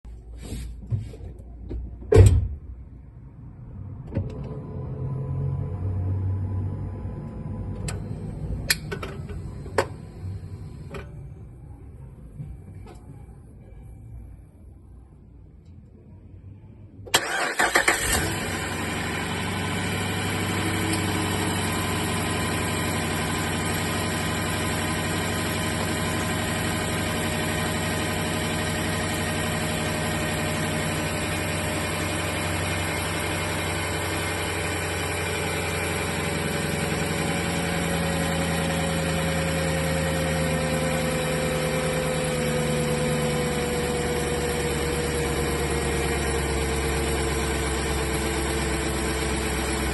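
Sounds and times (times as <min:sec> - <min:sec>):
car engine starting and idling: 0:01.0 - 0:14.7, 0:17.0 - 0:49.9
engine whine: 0:03.6 - 0:14.5, 0:17.1 - 0:49.9.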